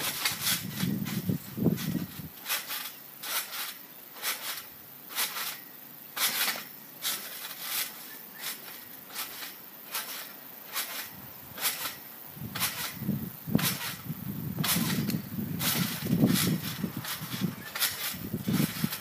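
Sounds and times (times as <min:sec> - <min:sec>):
trampoline springs bouncing: 0:00.0 - 0:19.0.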